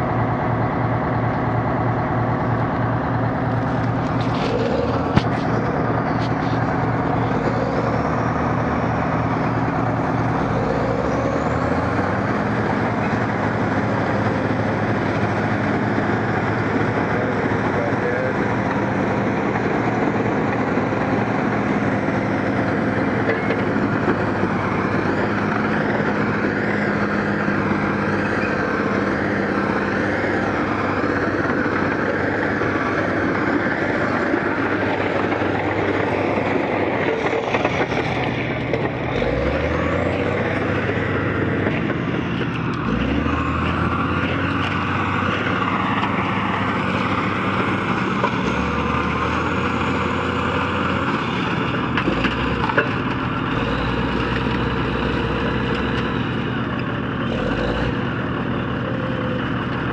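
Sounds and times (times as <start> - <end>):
track loader diesel engine: 0.0 - 59.9.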